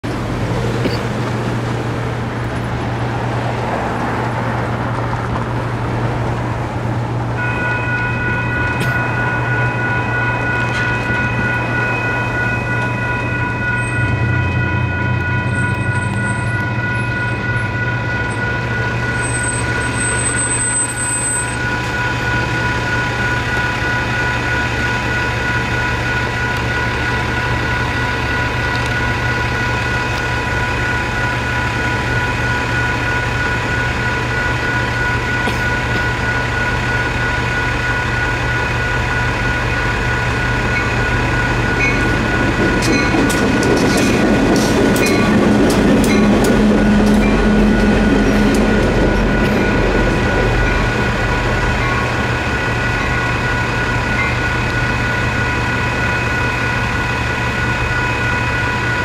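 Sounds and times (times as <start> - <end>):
crossing bell ringing: 0.0 - 59.0
diesel locomotive drone: 0.0 - 59.0.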